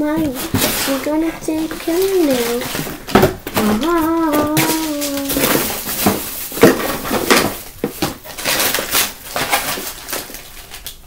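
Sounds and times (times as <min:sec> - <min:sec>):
plastic containers clicking and knocking: 0:00.1 - 0:11.0.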